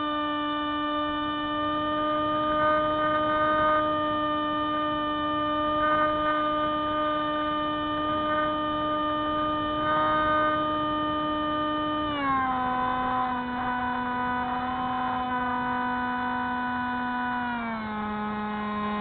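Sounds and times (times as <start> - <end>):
model plane electric motor whine: 0.0 - 19.0.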